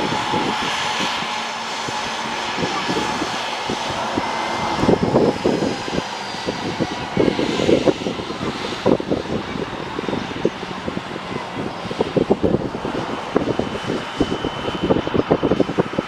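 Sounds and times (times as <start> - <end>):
airliner engine rush: 0.0 - 16.0.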